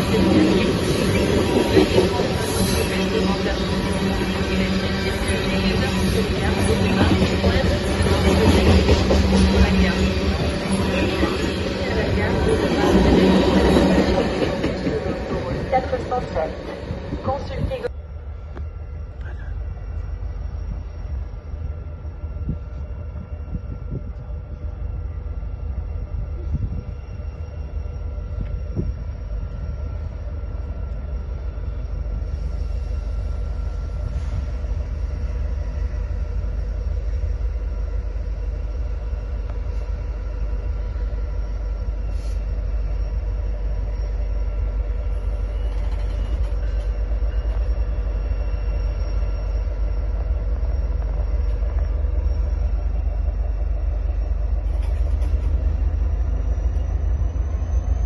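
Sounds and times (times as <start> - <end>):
faint train whine: 0.0 - 58.0
train rumbling: 0.0 - 58.0.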